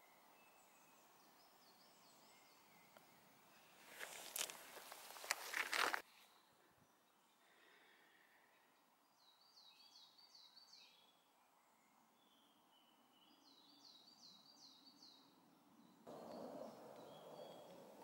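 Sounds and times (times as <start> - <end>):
faint small bird song: 0.0 - 18.0.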